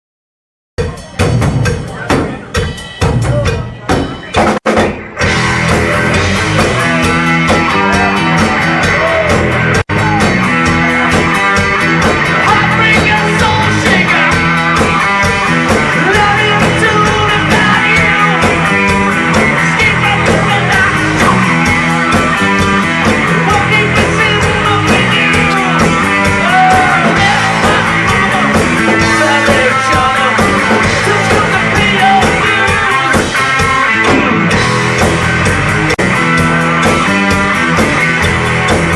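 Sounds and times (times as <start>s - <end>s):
rock band music: 0.8s - 38.9s.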